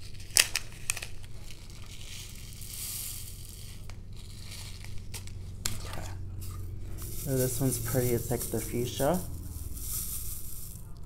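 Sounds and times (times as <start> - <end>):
plastic bag crinkling: 0.0 - 11.0
plastic crystals pouring: 0.0 - 11.0.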